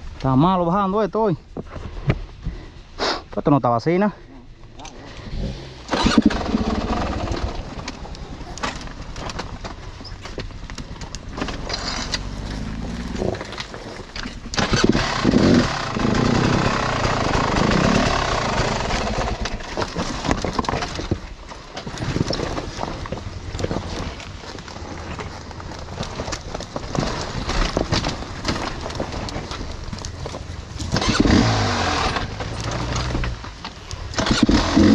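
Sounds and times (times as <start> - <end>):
wind and tyre noise: 0.0 - 34.9
bike rattling and knocking: 5.9 - 34.9.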